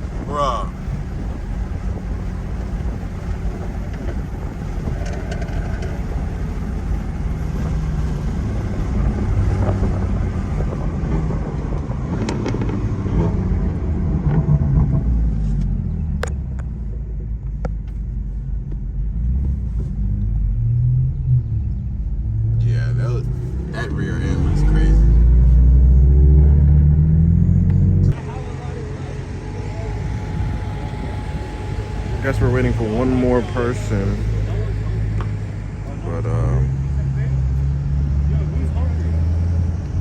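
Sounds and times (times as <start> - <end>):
car engine and exhaust rumbling: 0.0 - 40.0.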